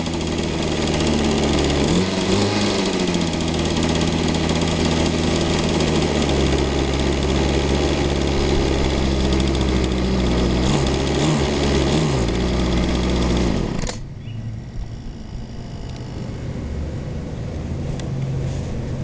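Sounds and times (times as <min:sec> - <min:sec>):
small engine turning over with drill: 0:00.0 - 0:16.4.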